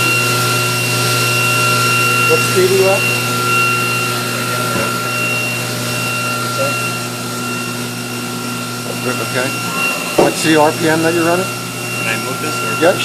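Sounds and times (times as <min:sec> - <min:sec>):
machine hum: 0:00.0 - 0:13.0
machine spindle whine: 0:00.0 - 0:13.0.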